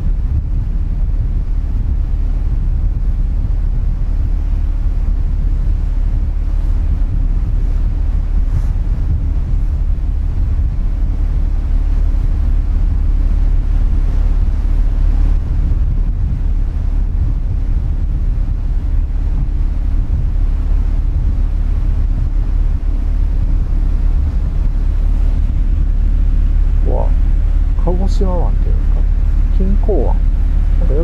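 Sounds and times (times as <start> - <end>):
low rumble of ship engines: 0.0 - 31.0
wind rushing over microphone: 0.0 - 31.0.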